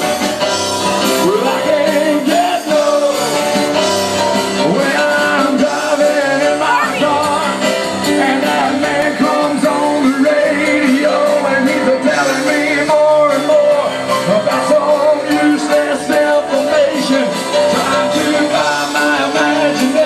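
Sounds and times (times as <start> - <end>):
live rock and roll band: 0.0 - 20.0
man singing: 1.0 - 20.0.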